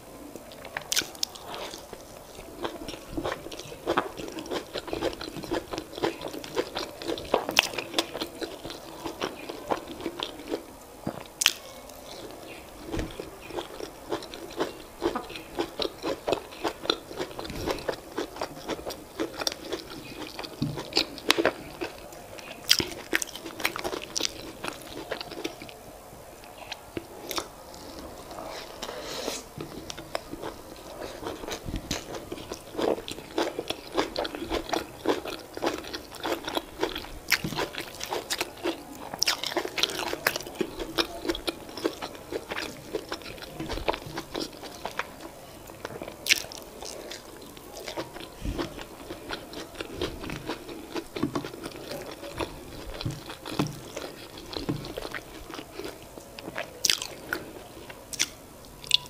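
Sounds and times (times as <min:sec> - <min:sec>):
person chewing wetly: 0:00.4 - 0:25.8, 0:26.5 - 0:59.0.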